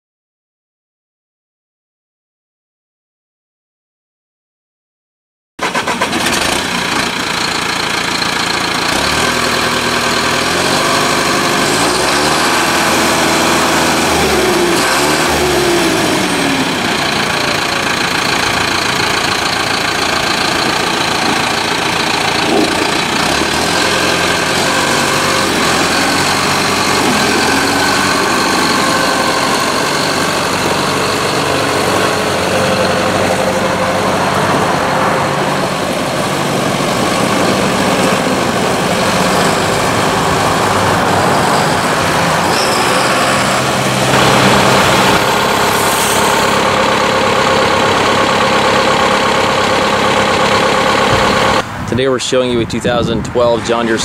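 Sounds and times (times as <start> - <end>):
tractor diesel engine running: 5.6 - 54.0.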